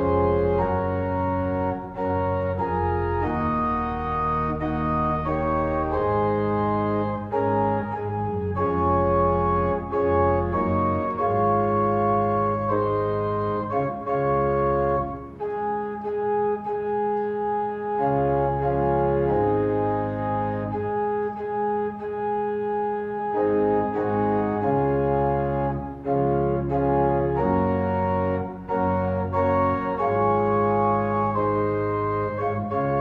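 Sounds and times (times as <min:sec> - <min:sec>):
organ playing held chords: 0:00.0 - 0:33.0.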